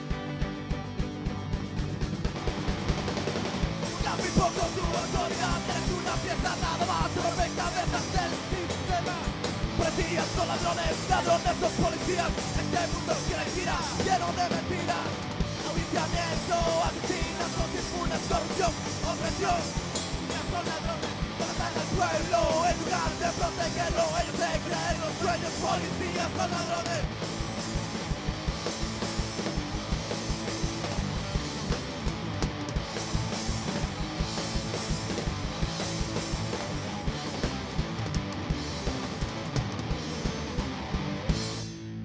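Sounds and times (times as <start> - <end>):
punk rock band playing: 0.0 - 42.0.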